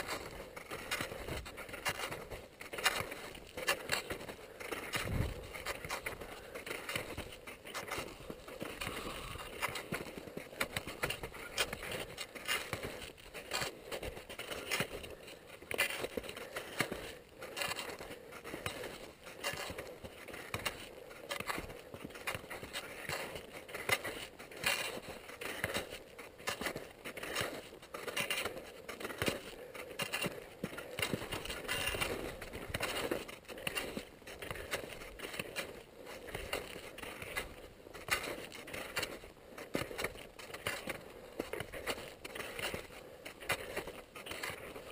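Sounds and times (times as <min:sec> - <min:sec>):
skis swishing over snow: 0:00.0 - 0:44.9.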